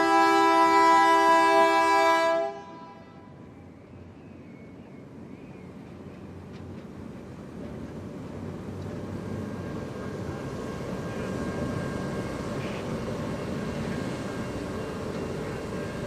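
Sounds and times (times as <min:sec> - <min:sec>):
diesel locomotive engine under load: 0:00.0 - 0:16.0.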